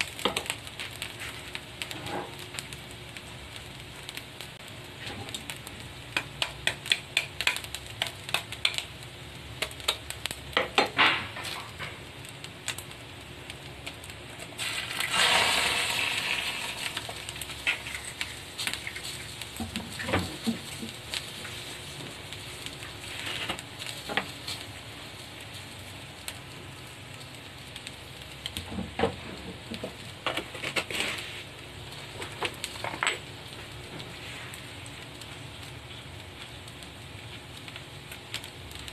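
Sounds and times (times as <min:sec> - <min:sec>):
clicks and crackles: 0:00.0 - 0:38.9
egg sizzling on hot plate: 0:00.0 - 0:38.9.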